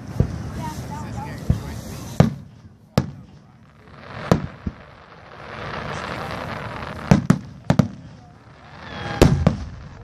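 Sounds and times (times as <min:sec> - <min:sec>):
fireworks bursting bangs: 0:00.0 - 0:10.0
fireworks hiss: 0:00.0 - 0:10.0.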